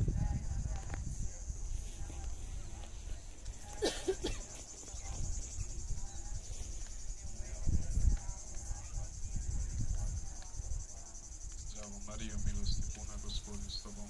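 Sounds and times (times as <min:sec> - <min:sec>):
insects shrilling: 0:00.5 - 0:14.0.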